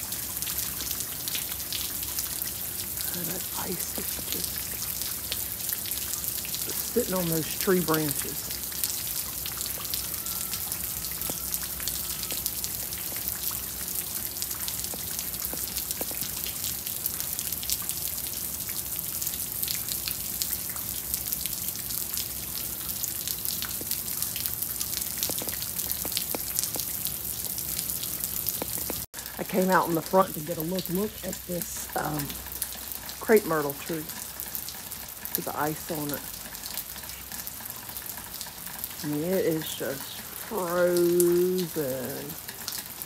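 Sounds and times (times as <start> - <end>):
freezing rain drops ticking on ice: 0.0 - 43.0.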